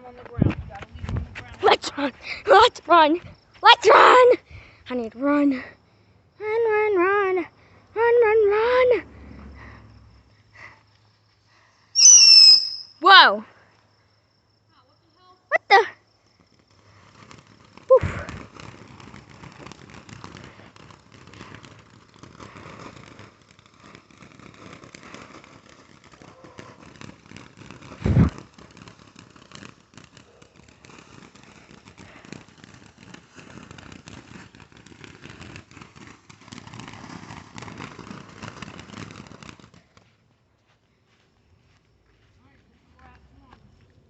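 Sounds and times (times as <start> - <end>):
fireworks crackling and popping: 0.0 - 44.0.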